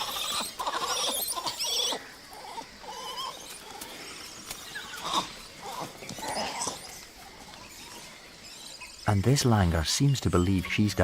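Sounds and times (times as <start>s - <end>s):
monkeys calling: 0.0s - 11.0s.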